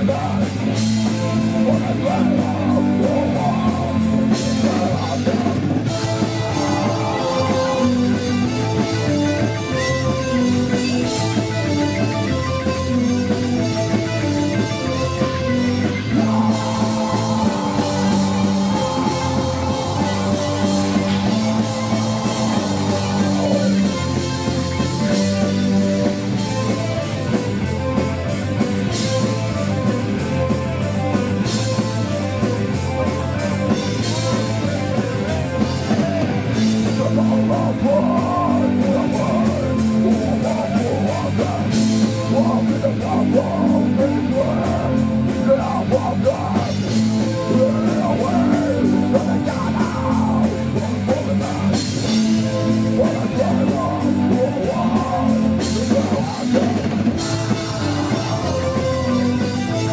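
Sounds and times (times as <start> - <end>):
bass guitar: 0.0 - 59.9
distorted electric guitars: 0.0 - 59.9
fast drums: 0.0 - 59.9
keyboard melody: 0.4 - 59.9.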